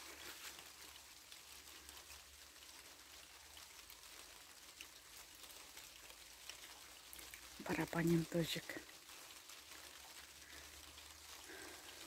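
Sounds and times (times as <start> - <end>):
light rain patter: 0.0 - 12.0
single raindrops ticking: 0.0 - 12.0.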